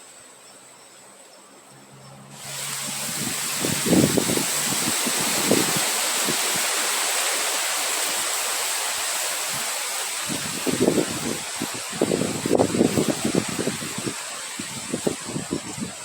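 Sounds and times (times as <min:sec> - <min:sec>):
wind blowing: 0:01.8 - 0:16.0
wind buffeting microphone: 0:02.4 - 0:16.0.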